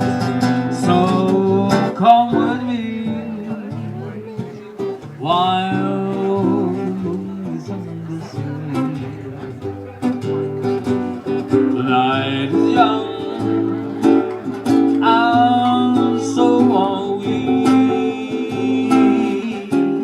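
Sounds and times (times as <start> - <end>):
sliding lead melody: 0.0 - 20.0
strummed acoustic guitars: 0.0 - 20.0.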